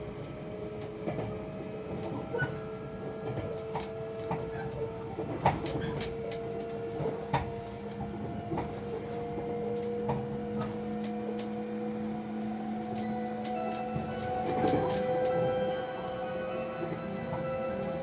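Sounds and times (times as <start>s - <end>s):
train cabin hum: 0.0s - 18.0s.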